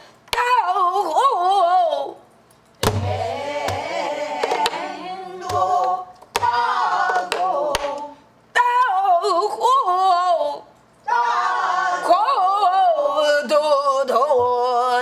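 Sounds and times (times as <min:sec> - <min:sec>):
woman singing: 0:00.4 - 0:02.2, 0:03.1 - 0:10.7, 0:12.0 - 0:15.0.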